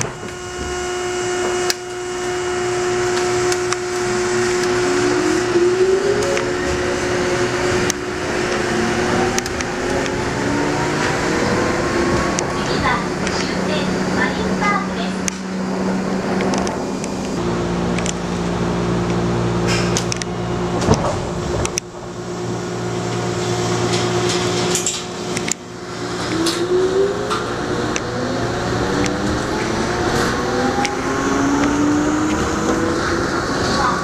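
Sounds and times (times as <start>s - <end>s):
motors whining rising in pitch: 0.0s - 34.0s
subway train traction hum: 0.0s - 34.0s.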